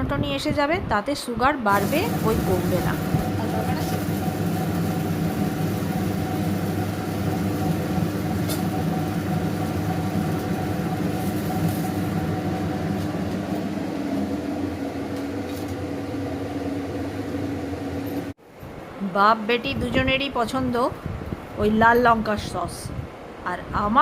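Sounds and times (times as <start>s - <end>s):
electric fan motor humming: 0.1s - 24.0s.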